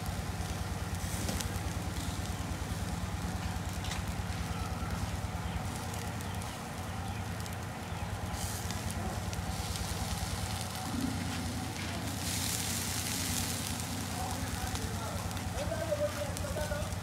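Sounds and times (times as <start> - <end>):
charcoal fire crackling: 0.0 - 17.0
steady low hum: 0.0 - 17.0.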